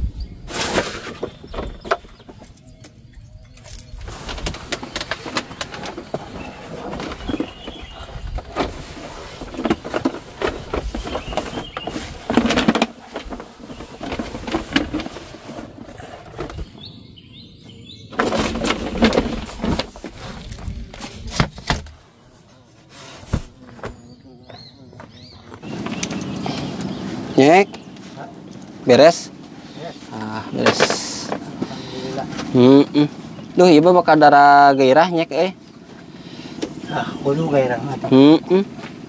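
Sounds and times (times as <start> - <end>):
bird chirping: 0.0 - 20.9, 23.3 - 39.0.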